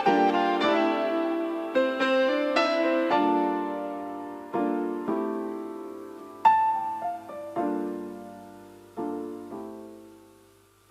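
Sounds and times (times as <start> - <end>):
piano playing slow chords: 0.0 - 10.9.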